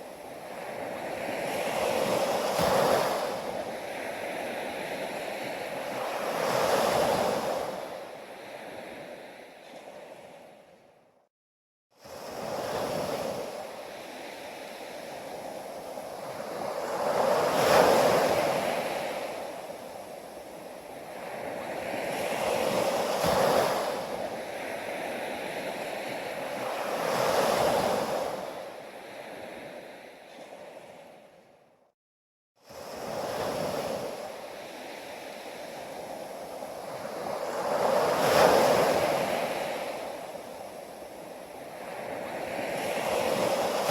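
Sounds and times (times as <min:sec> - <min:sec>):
sea waves breaking on beach: 0:00.0 - 0:10.4, 0:12.0 - 0:31.2, 0:32.6 - 0:43.9.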